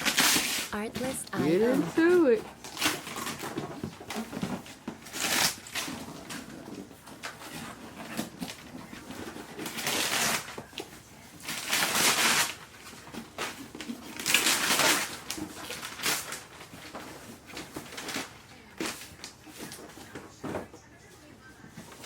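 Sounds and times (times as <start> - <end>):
wrapping paper tearing and rustling: 0.0 - 20.6.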